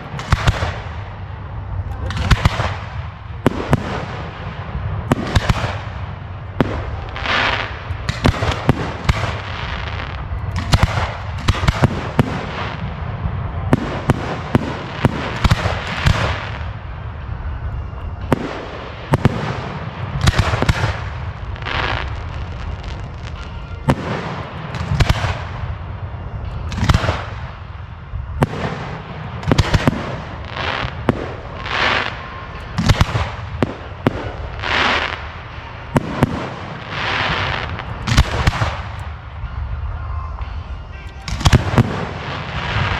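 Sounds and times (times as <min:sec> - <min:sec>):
fireworks rushing burst: 0:00.0 - 0:17.3, 0:18.2 - 0:39.3, 0:41.2 - 0:42.9
fireworks bangs: 0:00.0 - 0:42.9.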